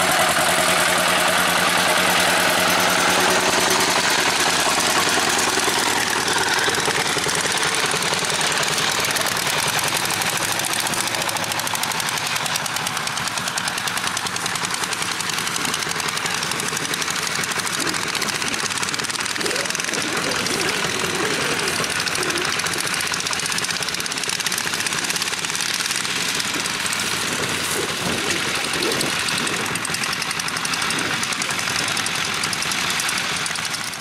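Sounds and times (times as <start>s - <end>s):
diesel tractor engine running: 0.0s - 34.0s.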